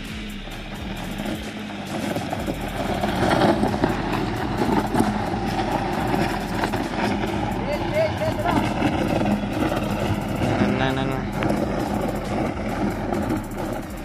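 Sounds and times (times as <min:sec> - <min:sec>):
car engine running: 0:00.0 - 0:14.0
tire scraping over gravel: 0:00.0 - 0:14.0.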